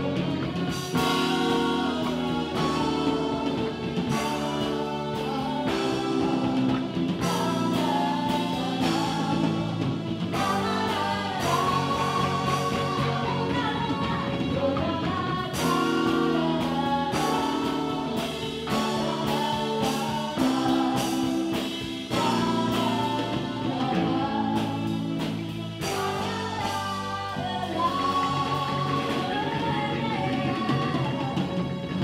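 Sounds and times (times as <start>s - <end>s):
live funk band playing: 0.0s - 32.0s
woman singing lead: 0.0s - 32.0s.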